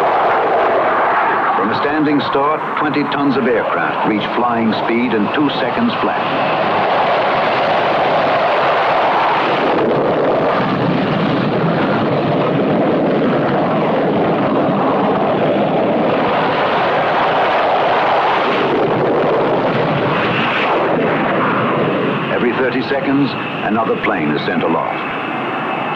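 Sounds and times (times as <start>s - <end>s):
jet engines roaring: 0.0s - 25.9s.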